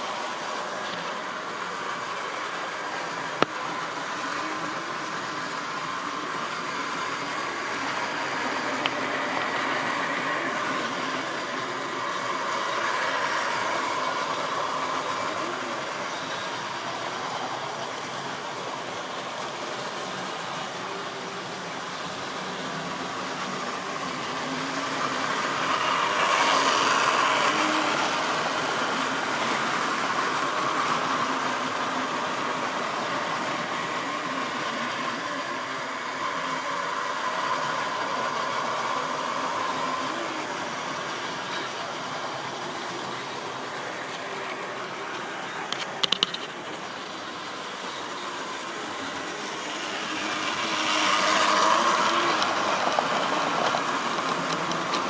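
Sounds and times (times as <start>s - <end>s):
model train whirring and rattling: 0.0s - 55.0s.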